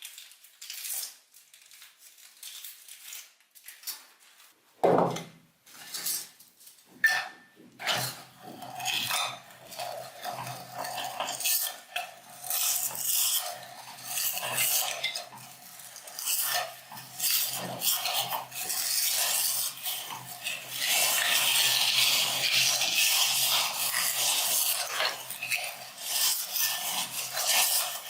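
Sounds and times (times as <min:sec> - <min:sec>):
rice cake crunching in a grinder: 0:00.0 - 0:03.4, 0:07.8 - 0:28.0.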